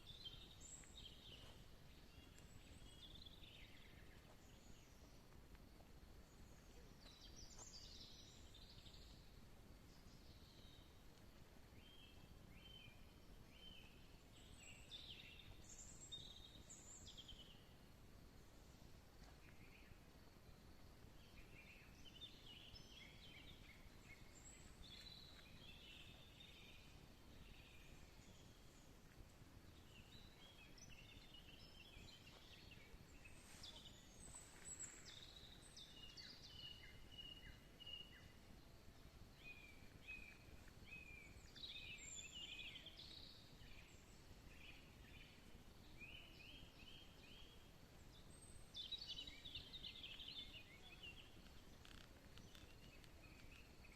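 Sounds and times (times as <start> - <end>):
faint songbirds singing: 0.0 - 53.9
steady background hiss: 0.0 - 53.9.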